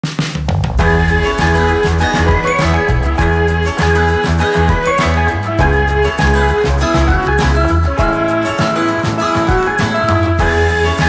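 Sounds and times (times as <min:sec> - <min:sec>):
upbeat pop music: 0:00.8 - 0:11.0.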